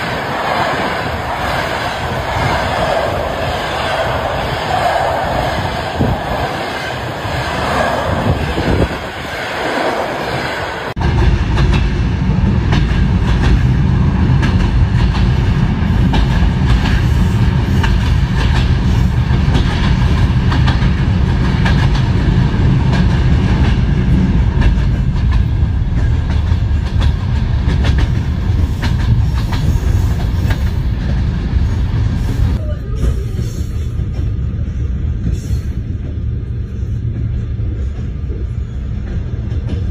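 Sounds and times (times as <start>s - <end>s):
train coaches rolling: 0.0s - 39.9s
train wheels clacking on rails: 0.0s - 39.9s.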